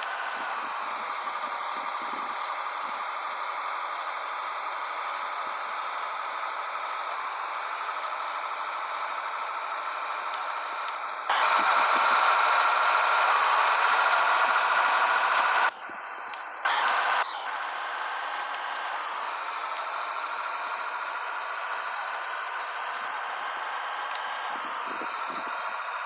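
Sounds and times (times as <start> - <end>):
rushing noise inside truck cab: 0.0 - 26.0.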